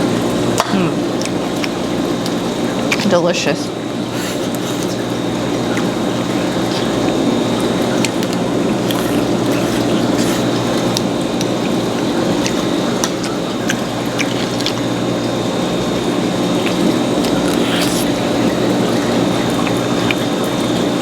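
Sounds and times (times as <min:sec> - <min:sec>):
background hum: 0:00.0 - 0:21.0
wet chewing of clams: 0:01.0 - 0:21.0.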